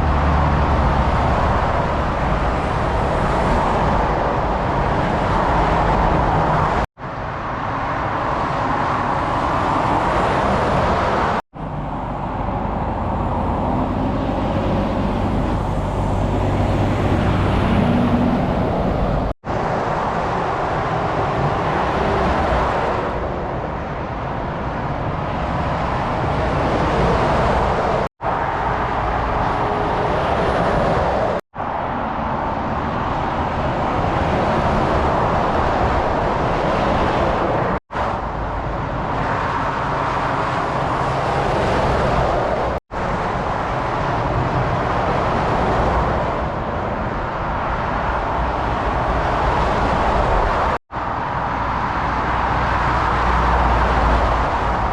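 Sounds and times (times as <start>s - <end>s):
lorry diesel engines droning: 0.0s - 54.9s
tyre roar of passing traffic: 0.0s - 54.9s.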